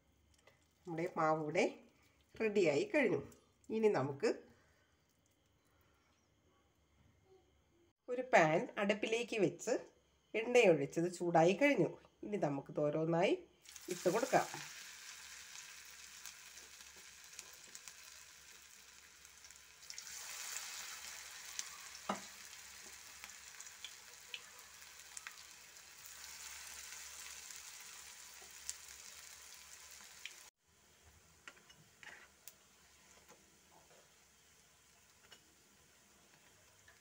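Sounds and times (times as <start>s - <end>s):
batter deep-frying in oil: 0.0s - 6.3s, 13.6s - 37.0s.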